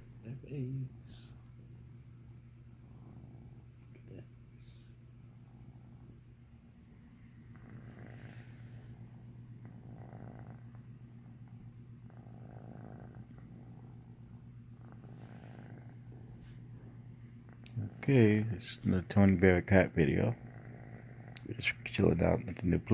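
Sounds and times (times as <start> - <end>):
cat purring: 0.0 - 22.9.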